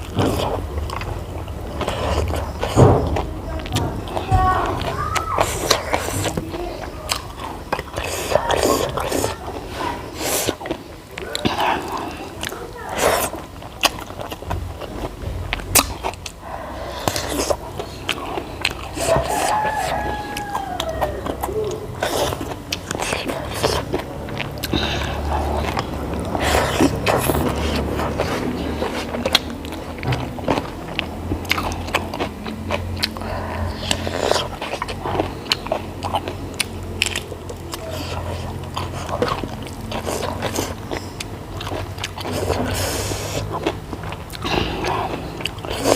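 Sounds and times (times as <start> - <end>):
person chewing crunchy food: 0.0 - 45.9
steady low hum: 0.0 - 45.9.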